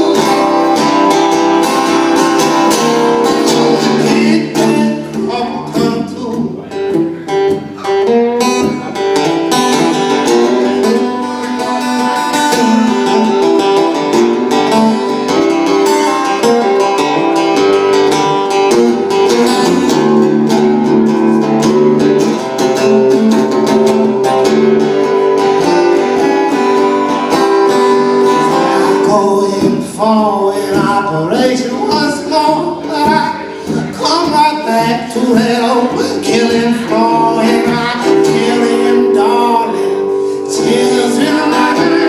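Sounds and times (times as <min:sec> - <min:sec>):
acoustic blues guitar: 0:00.0 - 0:42.0.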